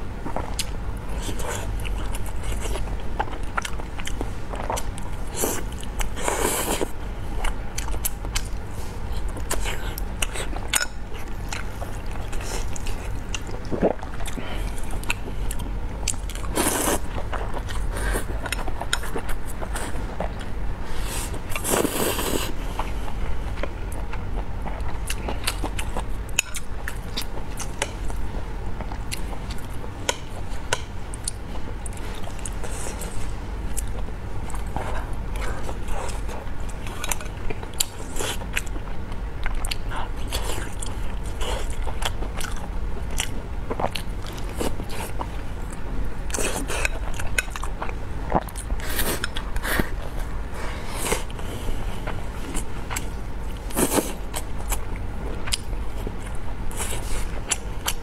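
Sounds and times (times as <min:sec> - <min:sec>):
steady low hum: 0:00.0 - 0:58.0
biting and chewing: 0:00.2 - 0:58.0.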